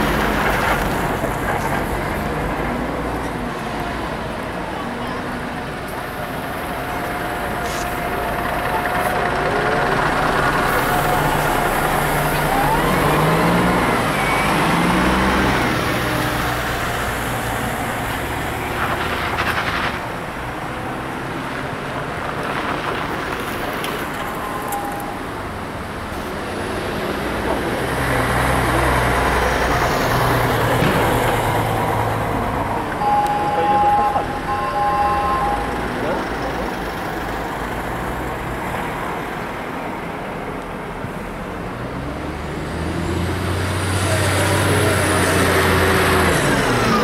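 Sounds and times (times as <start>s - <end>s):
buses and cars driving past: 0.0s - 47.0s.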